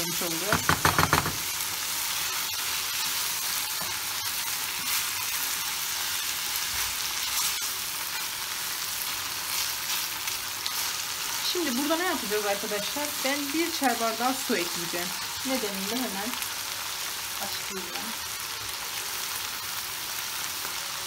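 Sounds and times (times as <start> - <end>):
meat sizzling in frying pan: 0.0 - 21.0.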